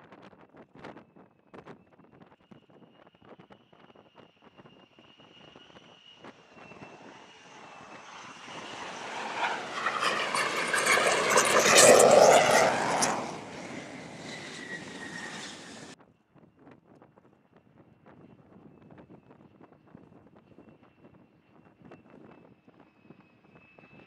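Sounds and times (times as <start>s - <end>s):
jet engine whine and roar: 1.0s - 16.0s, 17.6s - 24.0s.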